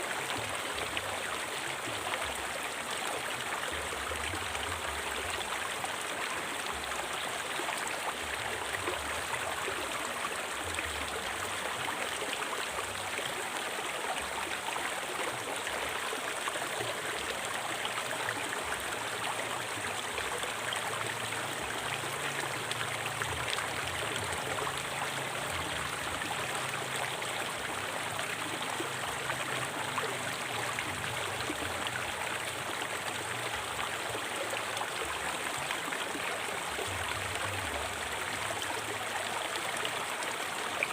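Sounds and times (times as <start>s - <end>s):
river flowing over rocks: 0.0s - 40.9s.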